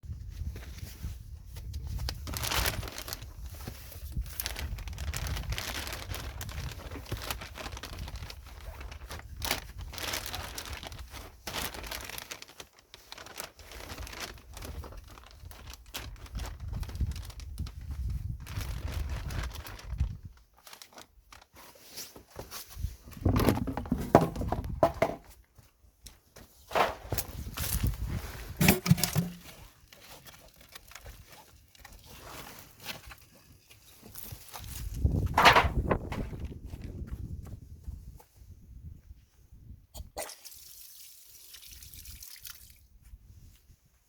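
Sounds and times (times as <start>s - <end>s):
crinkling and rustling: 0.1s - 38.4s.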